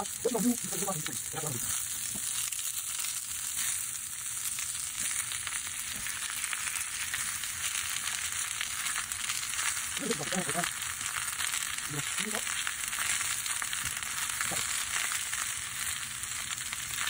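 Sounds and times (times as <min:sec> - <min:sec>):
vegetables sizzling in skillet: 0:00.0 - 0:17.0.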